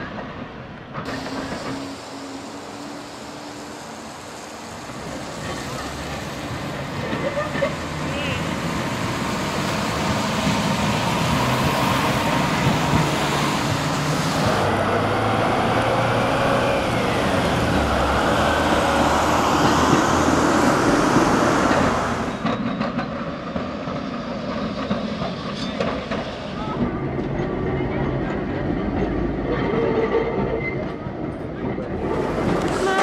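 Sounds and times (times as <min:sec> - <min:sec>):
electric tram on rails: 0:00.0 - 0:33.0.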